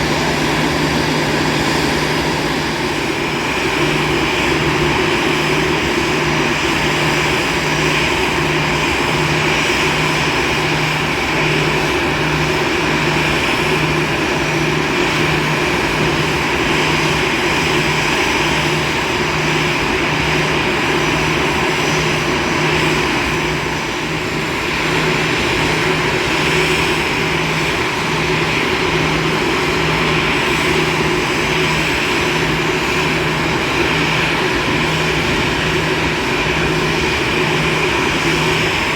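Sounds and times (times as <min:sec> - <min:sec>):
jet engines running: 0:00.0 - 0:38.9.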